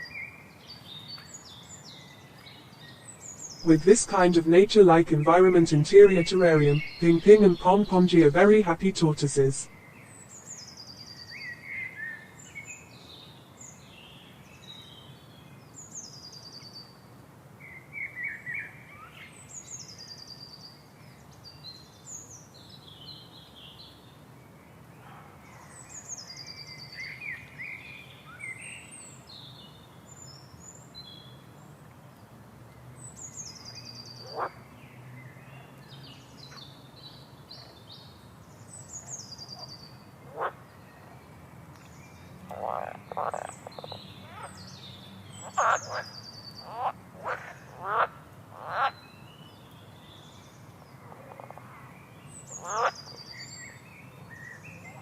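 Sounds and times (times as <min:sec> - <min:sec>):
songbirds singing: 0:00.0 - 0:17.0, 0:17.6 - 0:55.0.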